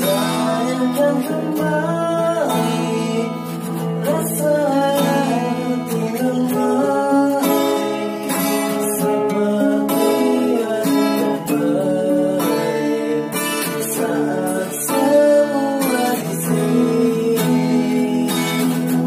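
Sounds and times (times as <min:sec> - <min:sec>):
acoustic guitars strummed: 0:00.0 - 0:19.0
man singing: 0:00.0 - 0:19.0.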